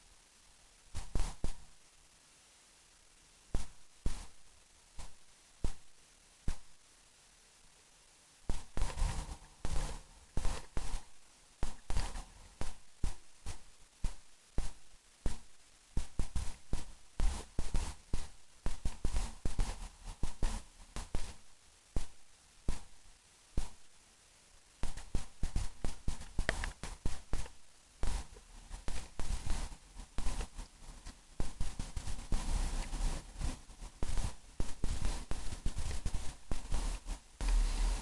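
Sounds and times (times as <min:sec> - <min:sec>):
crackling knocks and thumps: 0:00.9 - 0:01.8, 0:03.5 - 0:06.8, 0:08.4 - 0:24.0, 0:24.8 - 0:38.0.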